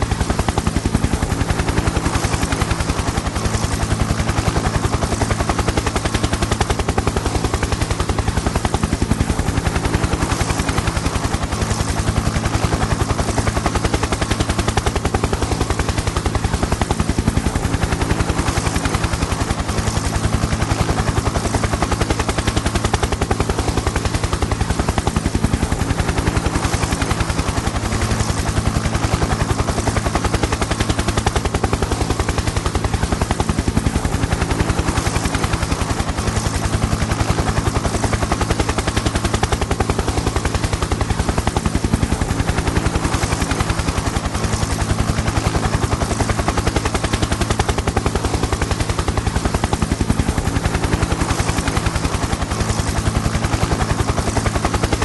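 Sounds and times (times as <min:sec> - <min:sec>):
helicopter rotor blades beating: 0:00.0 - 0:55.0.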